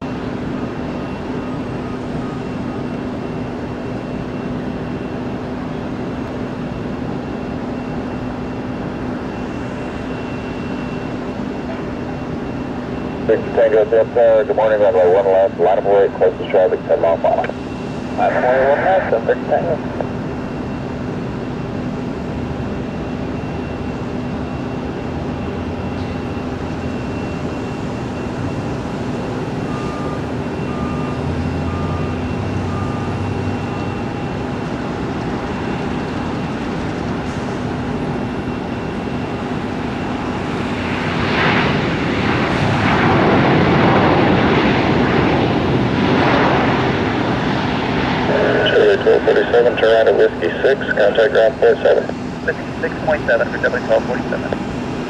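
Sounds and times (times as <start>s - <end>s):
aircraft engines humming: 0.0s - 55.0s.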